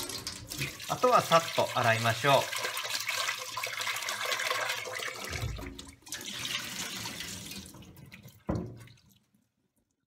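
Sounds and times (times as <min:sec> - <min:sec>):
tap water splashing in metal bowl: 0:00.0 - 0:09.2.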